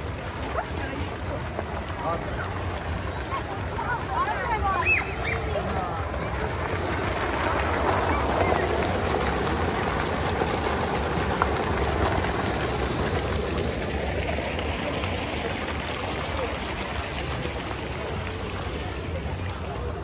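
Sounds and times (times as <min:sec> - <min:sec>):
fountain water splashing into basin: 0:00.0 - 0:20.0.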